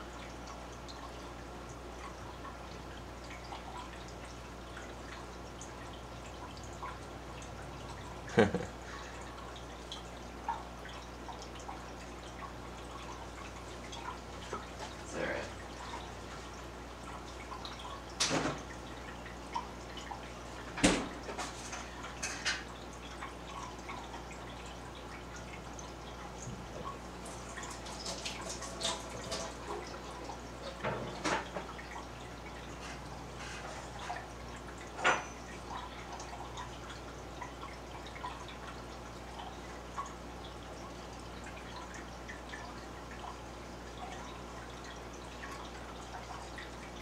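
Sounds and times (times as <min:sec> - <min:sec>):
low steady hum: 0:00.0 - 0:47.0
water trickling and dripping: 0:00.0 - 0:47.0.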